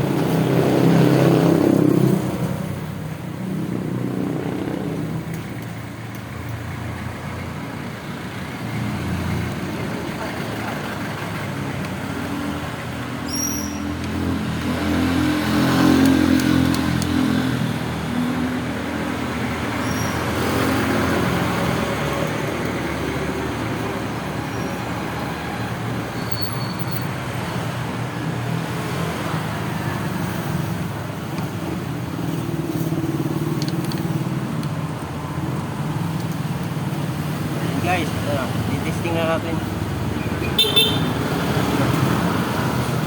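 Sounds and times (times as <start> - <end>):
road traffic noise: 0.0 - 43.0.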